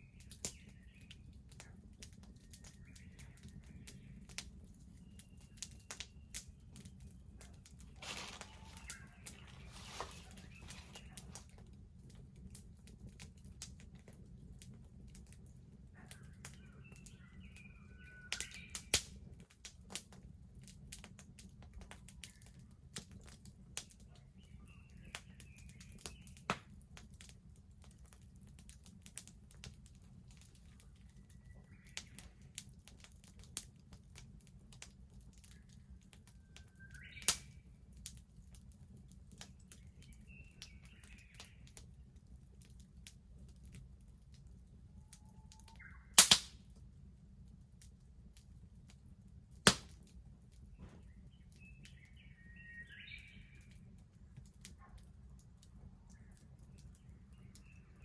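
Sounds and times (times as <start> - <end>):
small birds chirping: 0.0 - 19.4, 21.9 - 46.2, 49.7 - 58.0
bonfire crackling and popping: 0.0 - 58.0.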